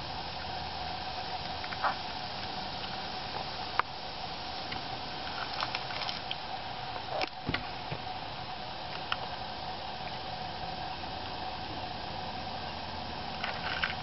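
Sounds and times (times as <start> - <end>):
faint hum: 0.0 - 14.0
steady hiss: 0.0 - 14.0
frogs hopping on dry leaves: 0.1 - 14.0.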